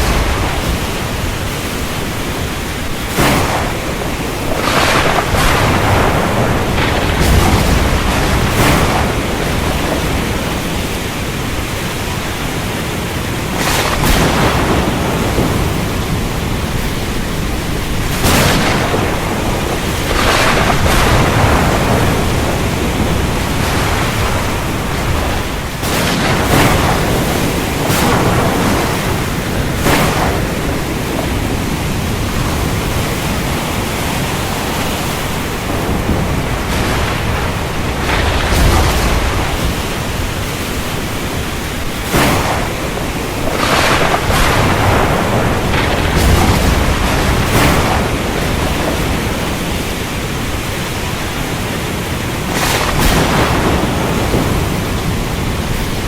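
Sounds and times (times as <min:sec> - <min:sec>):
heavy rain: 0:00.0 - 0:56.0
thunder cracking and rumbling: 0:00.0 - 0:56.0.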